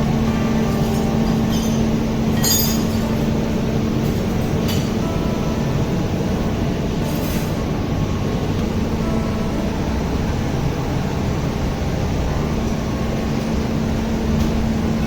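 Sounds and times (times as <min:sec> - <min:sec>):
machinery low rumble and hum: 0:00.0 - 0:15.0.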